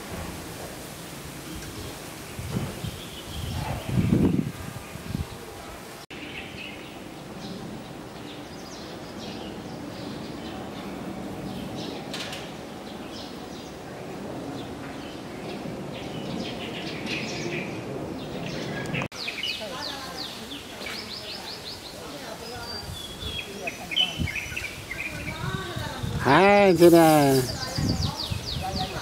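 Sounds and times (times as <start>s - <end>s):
small birds chirping: 1.0s - 5.4s, 6.1s - 29.0s.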